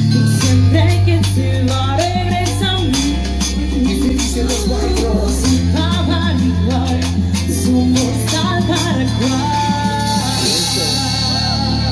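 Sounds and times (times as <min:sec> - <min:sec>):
bright percussion: 0:00.0 - 0:11.9
latin pop band music: 0:00.0 - 0:11.9
sustained bass notes: 0:00.0 - 0:11.9
woman singing: 0:00.0 - 0:11.9.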